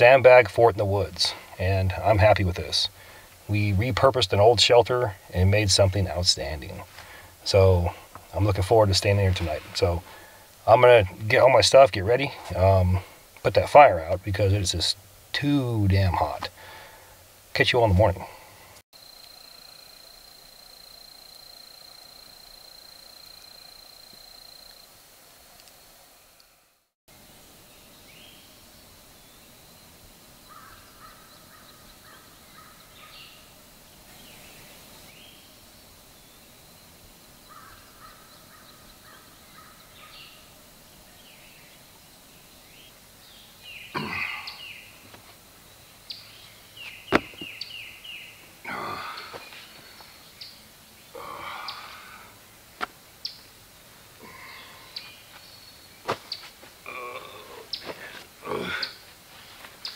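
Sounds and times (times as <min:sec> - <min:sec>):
birds calling: 0:00.0 - 0:18.8, 0:27.6 - 0:59.9.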